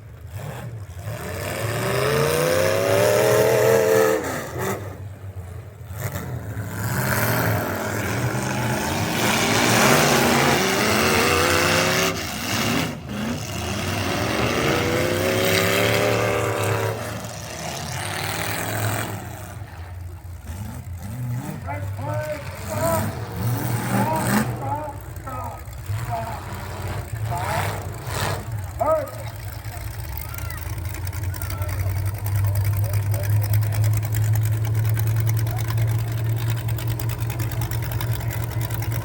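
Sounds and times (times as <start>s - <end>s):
truck engine at full throttle: 0.0s - 39.0s.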